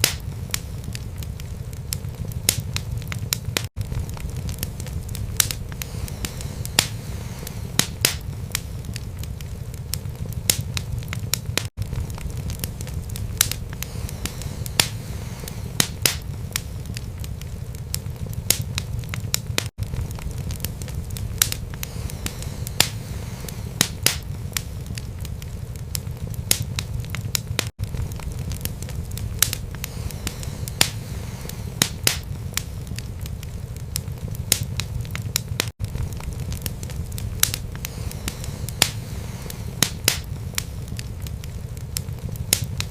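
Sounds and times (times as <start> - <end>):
fire flames rumbling: 0.0 - 42.9
wood crackling and popping: 0.0 - 42.9.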